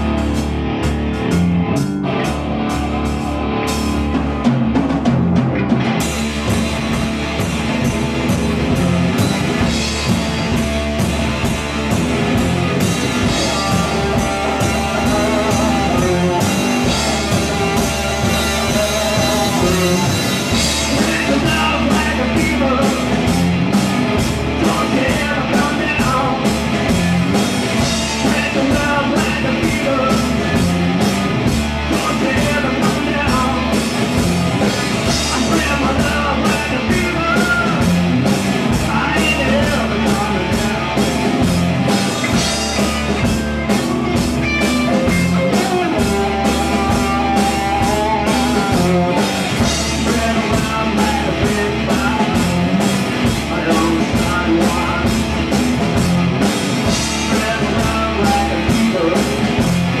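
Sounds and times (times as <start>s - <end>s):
drum kit beat: 0.0s - 60.0s
electric guitars: 0.0s - 60.0s.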